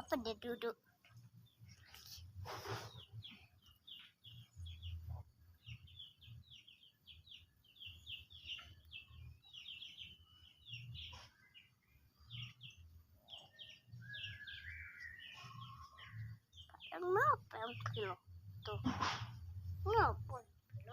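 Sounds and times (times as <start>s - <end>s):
faint bird chirping: 0.0s - 20.9s.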